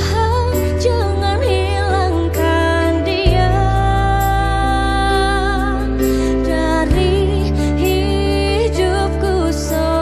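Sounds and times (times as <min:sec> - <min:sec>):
slow love song music: 0:00.0 - 0:10.0.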